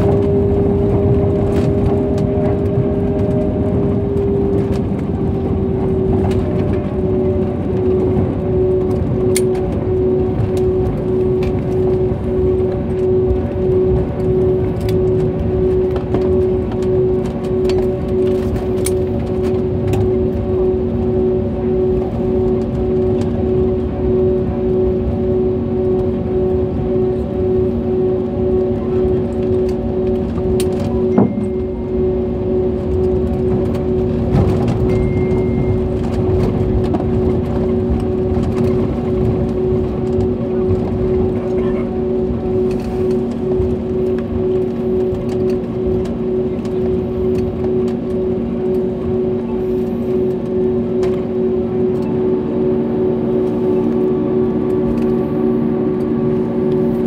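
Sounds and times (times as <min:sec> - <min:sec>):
aircraft cabin rumble: 0:00.0 - 0:57.0
steady hum: 0:00.0 - 0:57.0.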